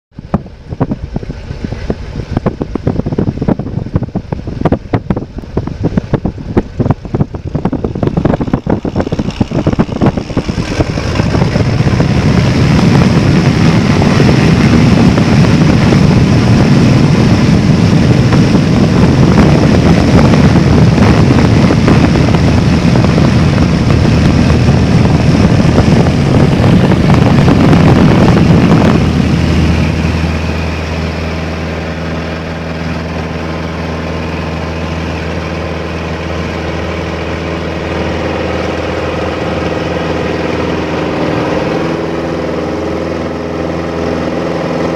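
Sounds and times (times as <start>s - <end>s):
floatplane engine and propeller: 0.1s - 44.9s
wind buffeting microphone: 0.1s - 44.9s.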